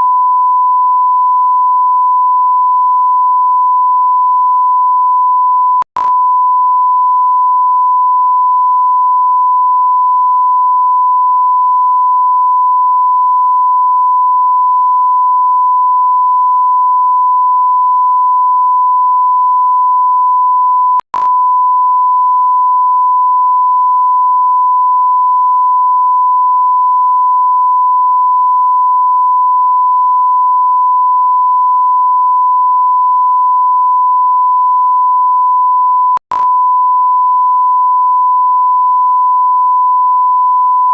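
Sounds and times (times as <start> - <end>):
sine wave beep tone: 0.0 - 40.9.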